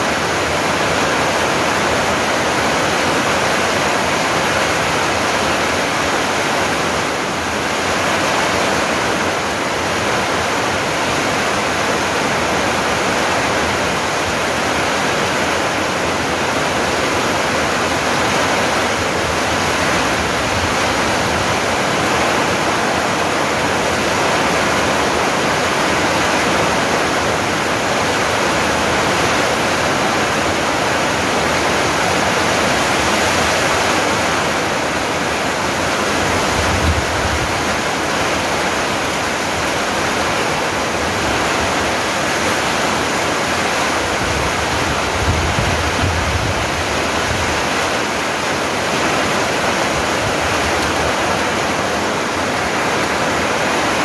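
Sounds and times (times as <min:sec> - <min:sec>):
heavy rain on trees: 0:00.0 - 0:54.0.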